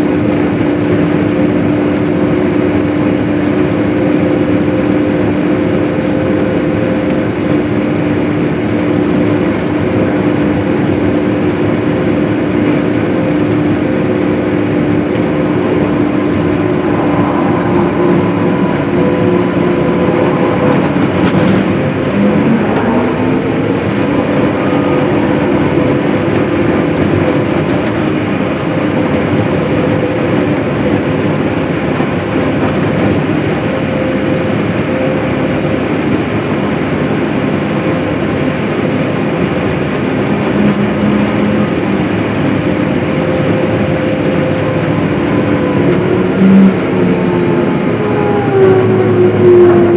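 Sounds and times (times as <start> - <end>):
swather engine droning: 0.0 - 49.9.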